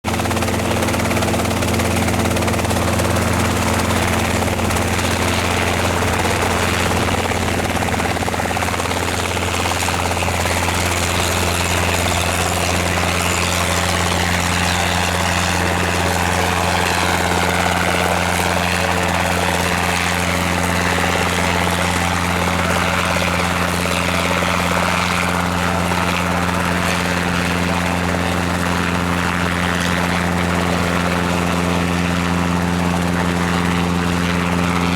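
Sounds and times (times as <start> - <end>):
helicopter engine and rotors droning: 0.1 - 34.9.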